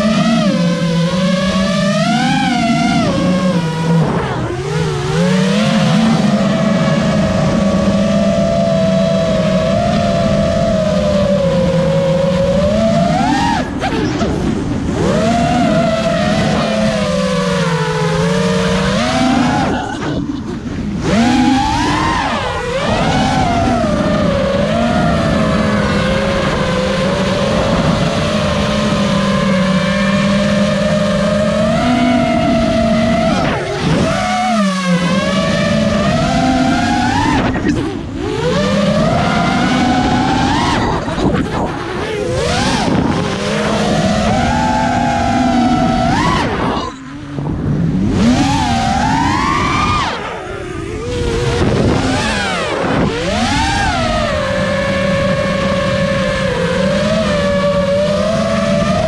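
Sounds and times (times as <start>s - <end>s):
drone propellers whining: 0.0s - 59.0s.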